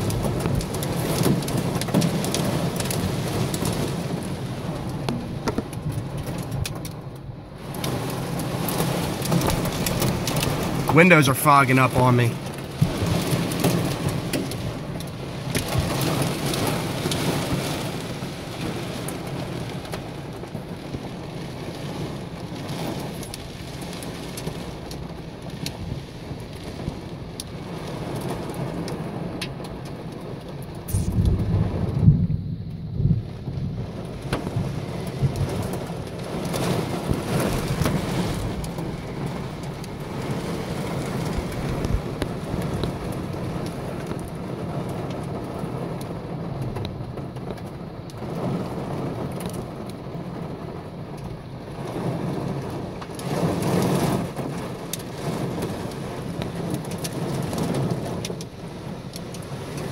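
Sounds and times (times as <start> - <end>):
rain and hail on car roof: 0.0 - 59.9
thunder rumble: 0.0 - 59.9.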